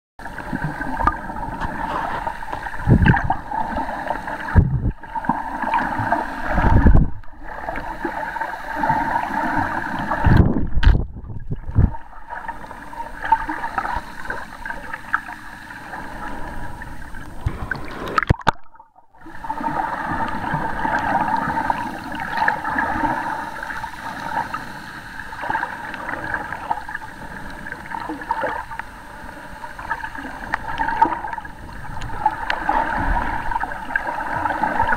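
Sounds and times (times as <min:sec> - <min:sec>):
underwater gurgling: 0:00.2 - 0:34.9.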